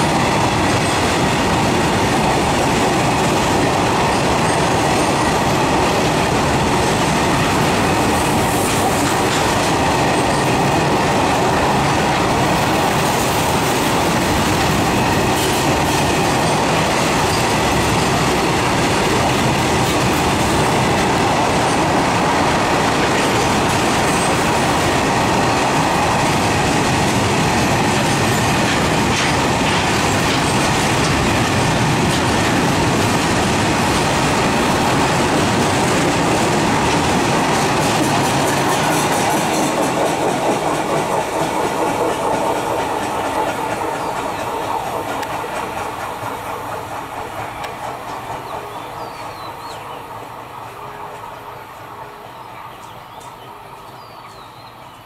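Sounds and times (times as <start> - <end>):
freight wagons rumbling on rails: 0.0 - 54.9.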